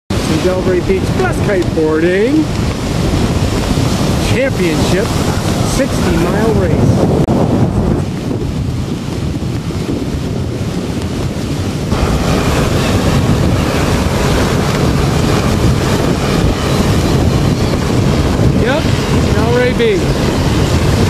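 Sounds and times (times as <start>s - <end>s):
ocean surf: 0.1s - 21.0s
wind buffeting microphone: 0.1s - 21.0s.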